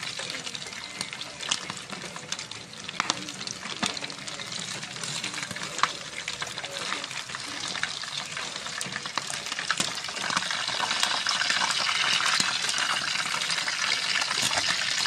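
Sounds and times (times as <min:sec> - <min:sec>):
chicken deep-frying in oil: 0:00.0 - 0:15.0
spatula turning food: 0:00.0 - 0:15.0.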